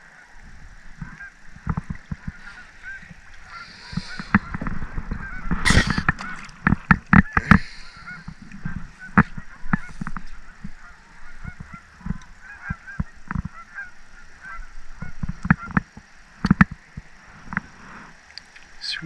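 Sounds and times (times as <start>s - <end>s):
water birds honking: 0.0s - 19.0s.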